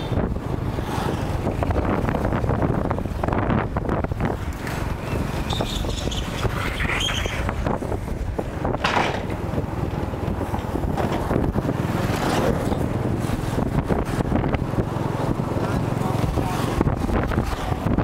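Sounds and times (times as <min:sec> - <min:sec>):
road traffic noise: 0:00.0 - 0:18.0
wind buffeting microphone: 0:00.0 - 0:18.0.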